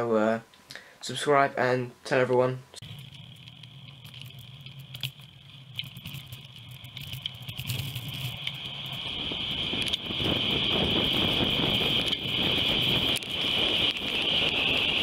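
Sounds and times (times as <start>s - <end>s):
high-pitched hum: 2.7s - 15.0s
bicycle clicks and rattles: 2.8s - 15.0s
low rumble: 2.8s - 15.0s
wind and road noise: 2.8s - 15.0s.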